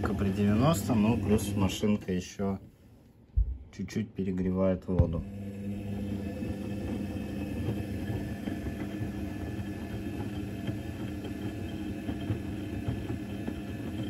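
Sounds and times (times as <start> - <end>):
washing machine hum: 0.0 - 2.5, 4.6 - 14.0.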